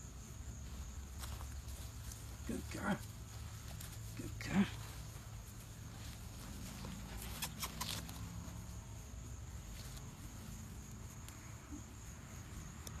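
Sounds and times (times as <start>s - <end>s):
puppies' paws pattering: 0.6s - 11.4s.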